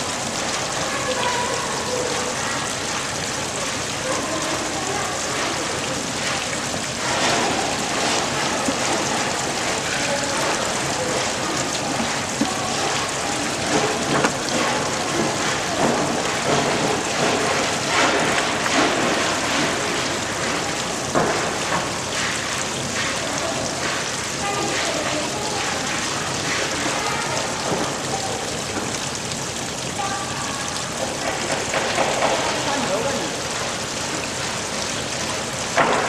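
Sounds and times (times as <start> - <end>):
water splashing hiss: 0.0 - 36.0.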